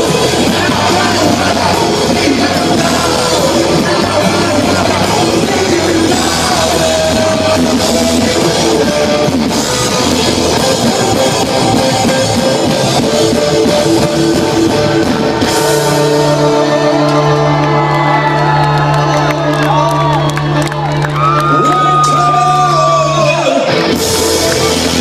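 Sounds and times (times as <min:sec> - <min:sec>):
live punk rock band: 0:00.0 - 0:25.0.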